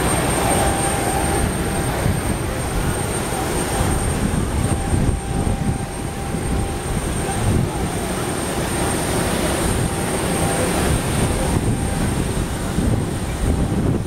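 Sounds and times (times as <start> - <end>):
faint voices: 0.0 - 14.0
low crowd rumble and hiss: 0.0 - 14.0.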